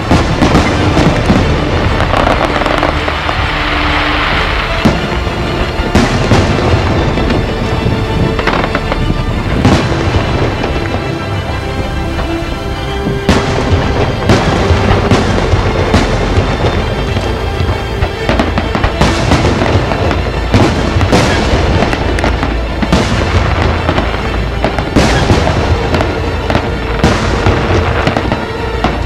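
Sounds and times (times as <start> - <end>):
firework crackling: 0.0 - 29.0
firework shells booming: 0.0 - 29.0.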